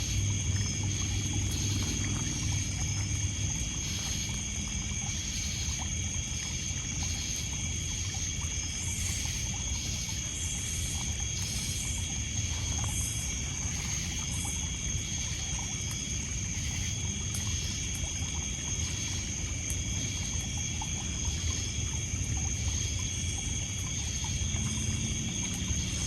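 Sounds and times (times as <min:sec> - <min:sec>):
crickets and insects chorus: 0:00.0 - 0:26.0
faint campfire crackles: 0:00.0 - 0:26.0.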